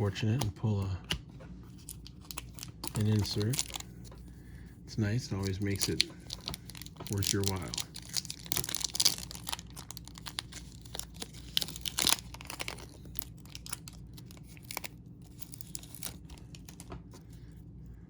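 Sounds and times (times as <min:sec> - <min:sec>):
card pack wrapper crinkling: 0:00.2 - 0:04.3, 0:05.2 - 0:17.2.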